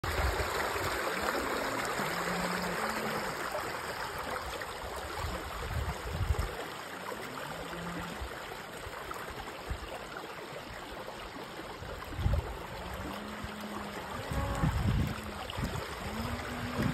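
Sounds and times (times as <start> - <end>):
creek running over stones: 0.0 - 16.9.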